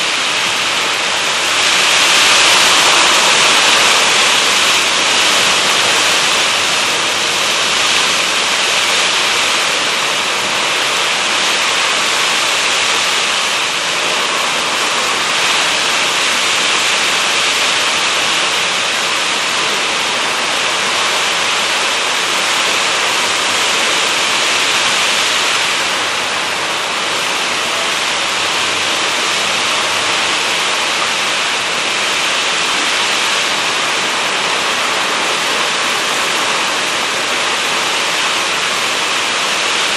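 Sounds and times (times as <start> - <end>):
heavy rain in gusty wind: 0.0 - 39.9.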